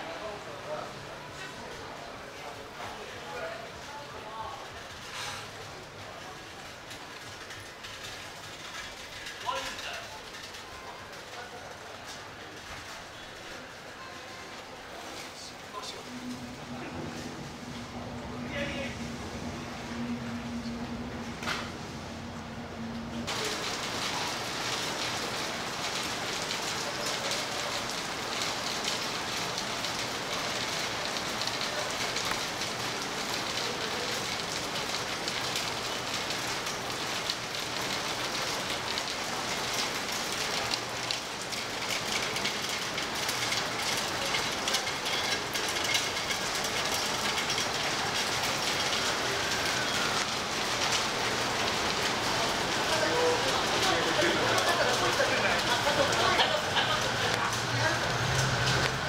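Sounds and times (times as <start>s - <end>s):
rain on pavement: 0.0s - 59.0s.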